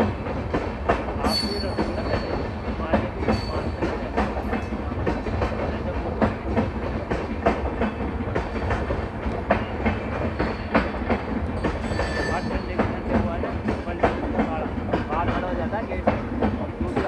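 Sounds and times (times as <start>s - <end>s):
train rumble: 0.0s - 17.0s
train wheels clicking over rail joints: 0.0s - 17.0s.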